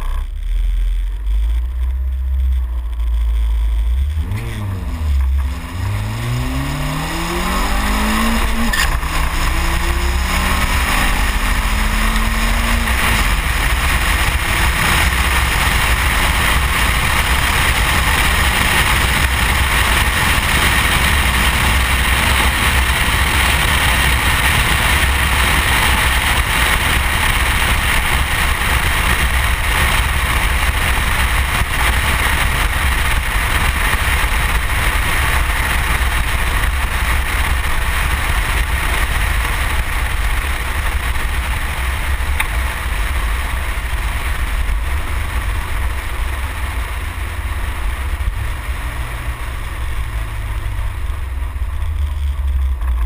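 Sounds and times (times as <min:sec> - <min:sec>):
car engine rumble: 0:00.0 - 0:53.0
wind rush and road noise: 0:00.0 - 0:53.0.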